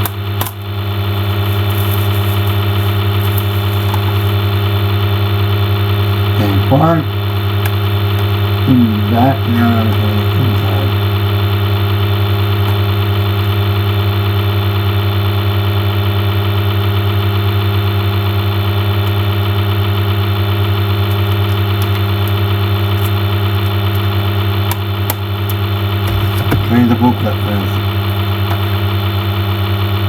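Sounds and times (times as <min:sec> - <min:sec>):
low electrical mains hum: 0:00.0 - 0:30.0.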